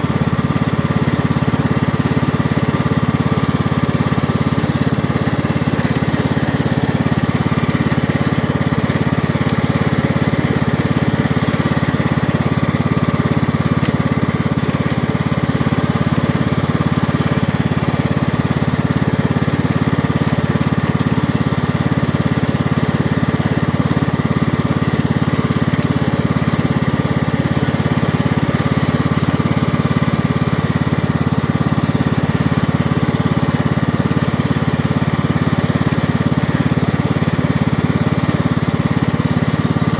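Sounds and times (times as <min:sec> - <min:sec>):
lawn tractor engine droning: 0:00.0 - 0:39.9.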